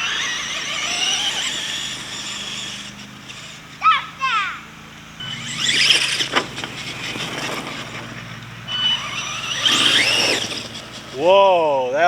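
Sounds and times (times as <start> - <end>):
electric motor whine: 0.0 - 3.8, 4.8 - 12.0.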